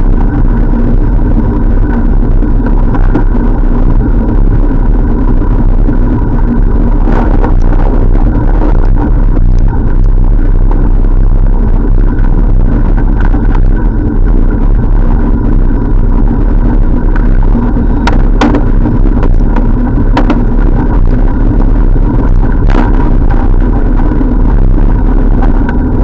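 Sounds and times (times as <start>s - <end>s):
constant hum: 0.0s - 26.0s
wind rumble on microphone: 0.0s - 26.0s.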